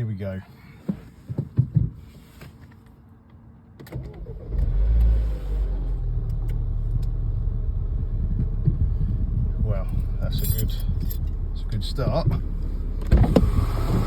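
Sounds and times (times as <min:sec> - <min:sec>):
car engine cranking and idling: 0:00.0 - 0:14.0.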